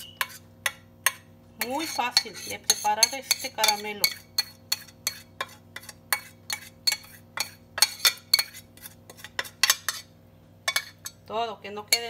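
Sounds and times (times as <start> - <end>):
metal spoon scraping a saucepan: 0.0 - 10.1, 10.7 - 11.2.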